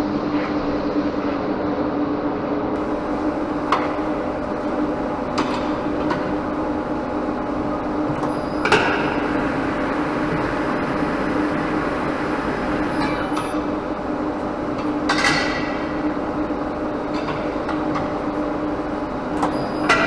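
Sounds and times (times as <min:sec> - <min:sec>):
workshop machinery humming: 0:02.8 - 0:20.0.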